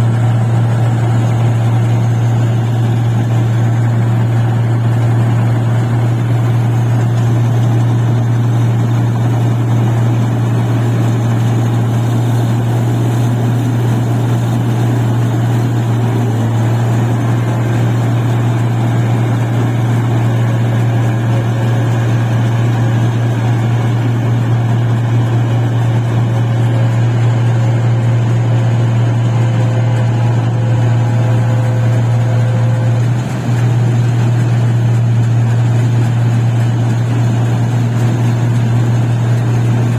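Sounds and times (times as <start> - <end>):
machine engine humming: 0.0 - 39.9.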